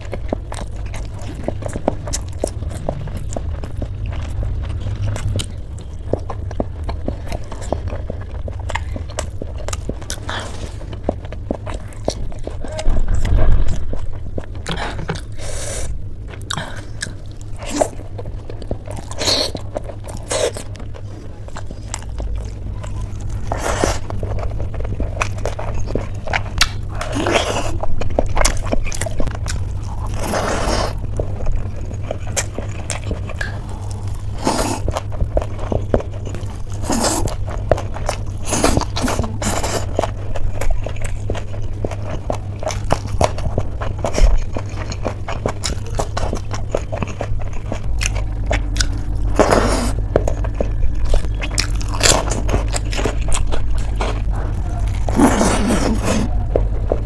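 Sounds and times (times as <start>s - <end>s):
crunchy bites: 0.0s - 57.0s
person chewing wet mouthfuls: 0.0s - 57.0s
steady low hum: 0.0s - 57.0s.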